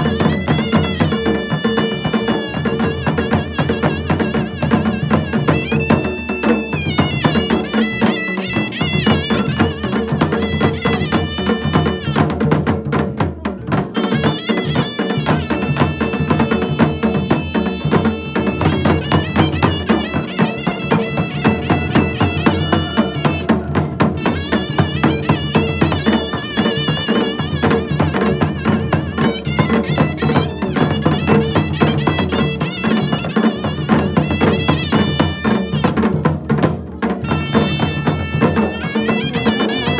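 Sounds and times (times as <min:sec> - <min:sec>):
folk dance music: 0:00.0 - 0:12.6, 0:13.8 - 0:36.2, 0:36.9 - 0:39.9
driving percussion beat: 0:00.0 - 0:39.9.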